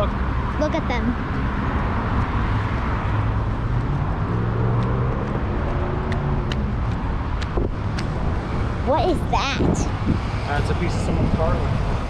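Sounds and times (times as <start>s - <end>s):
road traffic tyre and engine noise: 0.0s - 12.0s
vehicle engine hum: 0.0s - 12.0s.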